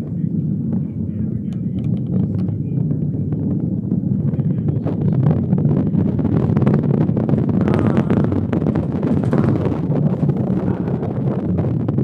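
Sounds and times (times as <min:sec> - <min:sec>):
distant rocket launch roar: 0:00.0 - 0:12.0.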